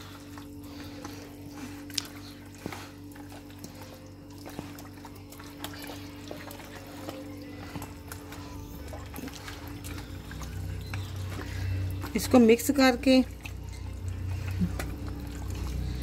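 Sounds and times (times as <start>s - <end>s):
hands kneading raw chicken: 0.0s - 16.0s
quiet background music: 0.0s - 16.0s.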